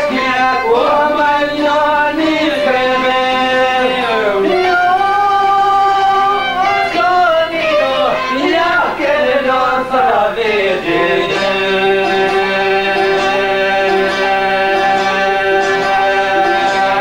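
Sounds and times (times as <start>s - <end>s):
men singing folk song: 0.0s - 17.0s.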